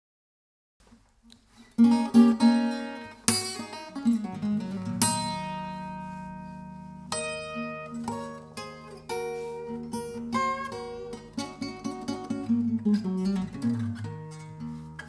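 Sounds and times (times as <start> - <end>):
acoustic guitar picking: 1.4 - 15.0
strummed guitar chords: 1.8 - 15.0.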